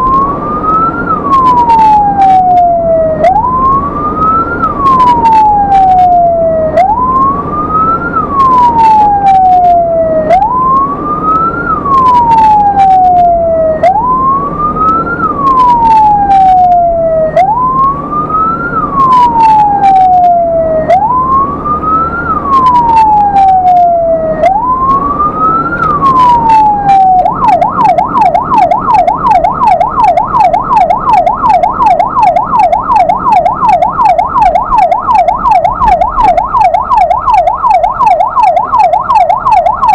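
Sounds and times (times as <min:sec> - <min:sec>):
ambulance siren wailing and yelping: 0:00.0 - 0:39.9
low engine rumble: 0:00.0 - 0:39.9.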